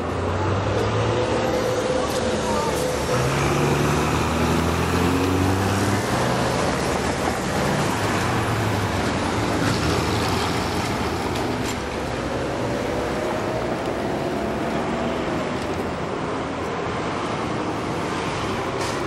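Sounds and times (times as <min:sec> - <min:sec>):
bus engine pulling through gears: 0:00.0 - 0:19.0
street traffic noise: 0:00.0 - 0:19.0.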